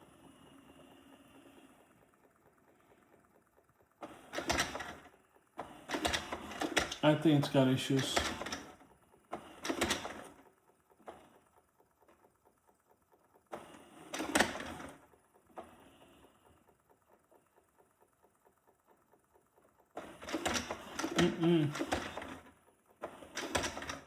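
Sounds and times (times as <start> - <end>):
robot vacuum ticking and whirring: 0.0 - 24.0.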